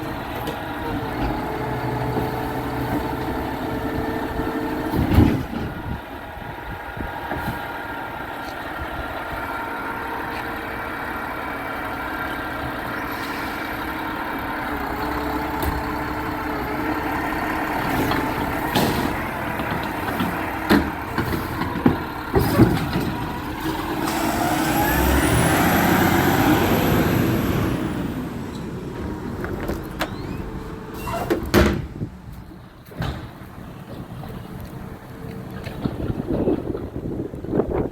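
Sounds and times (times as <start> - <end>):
garbage truck engine running: 0.0 - 37.9.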